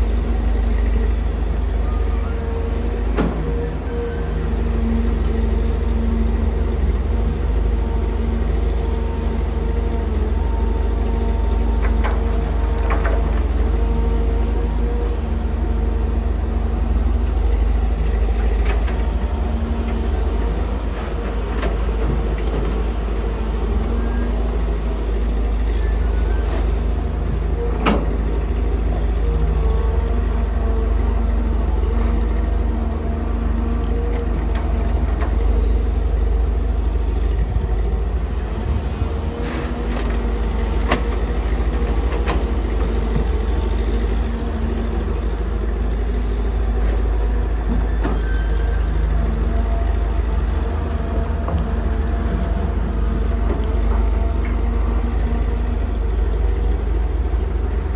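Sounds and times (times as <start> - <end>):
excavator diesel engine under load: 0.0 - 57.9.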